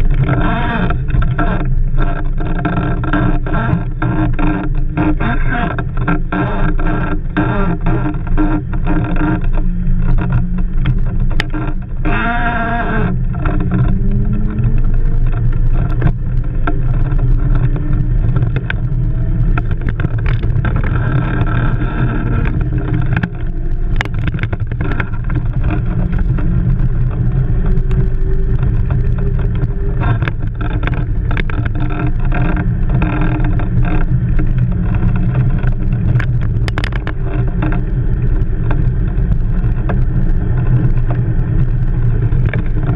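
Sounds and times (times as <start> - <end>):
rushing wind noise: 0.0 - 42.9
wheels rumbling on sand: 0.0 - 42.9.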